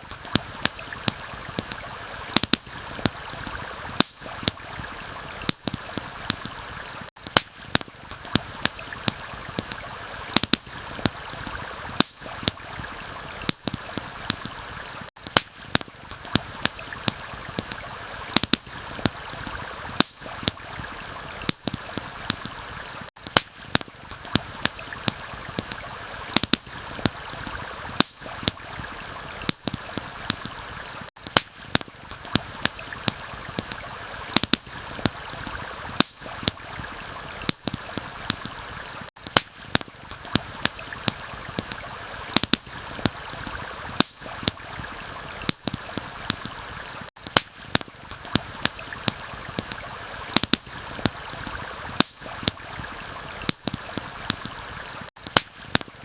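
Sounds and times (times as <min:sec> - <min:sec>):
stream water rushing: 0:00.0 - 0:47.1, 0:47.7 - 0:55.1
campfire popping and crackling: 0:00.0 - 0:56.0
rain: 0:00.0 - 0:56.0.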